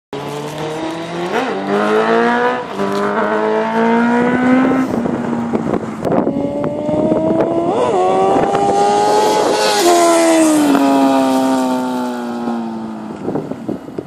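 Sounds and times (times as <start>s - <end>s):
motorcycle engine accelerating: 0.2s - 14.0s.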